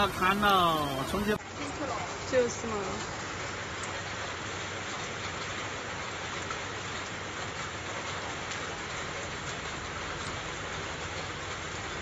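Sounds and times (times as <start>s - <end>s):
rain on standing water: 0.0s - 12.0s.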